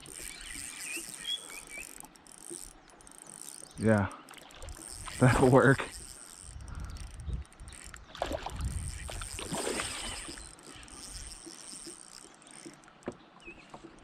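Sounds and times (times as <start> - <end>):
water splashing around a kayak: 0.0 - 6.4, 8.0 - 14.0
high-pitched insect buzz: 0.0 - 12.9.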